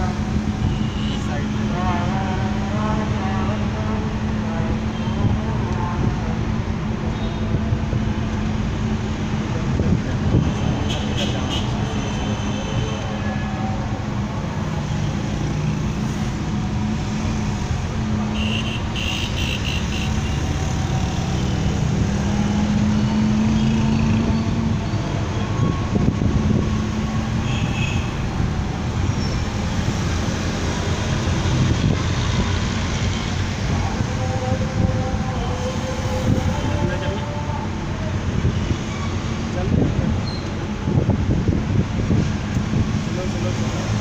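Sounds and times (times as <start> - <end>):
vehicle engine hum and road rumble: 0.0 - 44.0.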